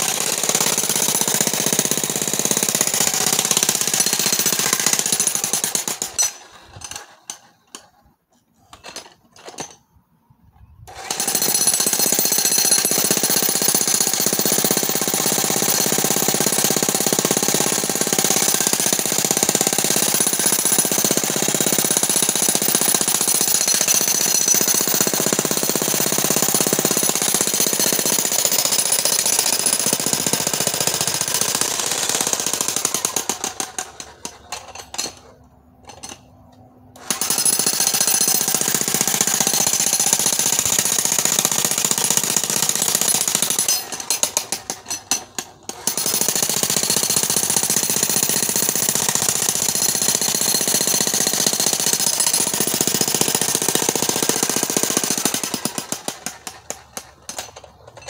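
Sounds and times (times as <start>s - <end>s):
demolition hammer chiselling rock: 0.0s - 9.9s, 10.9s - 36.2s, 37.0s - 58.0s.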